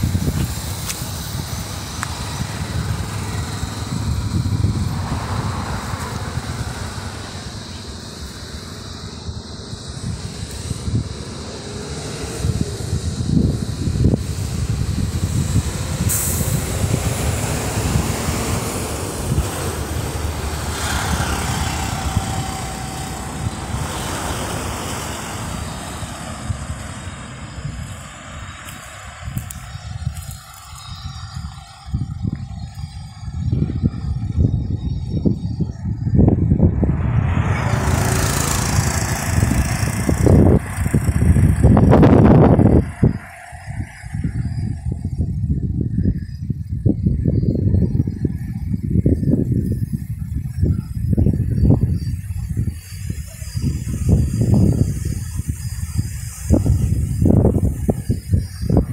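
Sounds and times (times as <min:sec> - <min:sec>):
road traffic passing: 0:00.0 - 0:58.9
vehicle engine and tyre noise: 0:00.0 - 0:58.9
wind buffeting microphone: 0:00.0 - 0:58.9.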